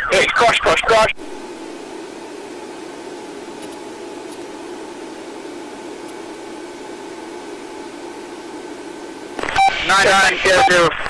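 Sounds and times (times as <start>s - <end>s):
faint steady tones: 0.0s - 11.0s
steady hiss: 0.2s - 11.0s
low hum: 1.0s - 11.0s.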